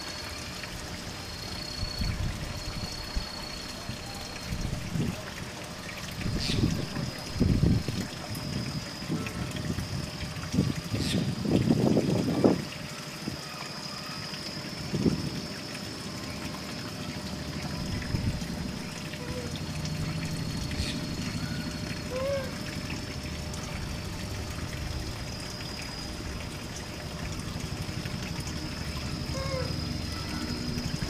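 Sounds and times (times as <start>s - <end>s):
trickling water: 0.0s - 31.0s.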